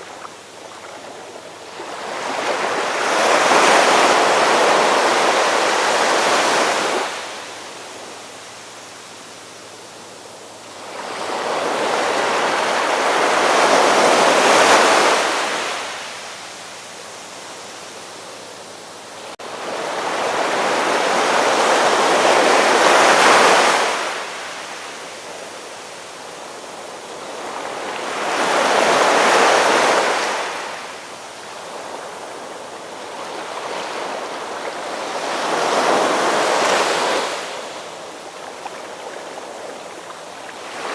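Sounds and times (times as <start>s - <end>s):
ocean surf breaking on beach: 0.0s - 9.2s, 10.1s - 16.6s, 19.1s - 40.9s.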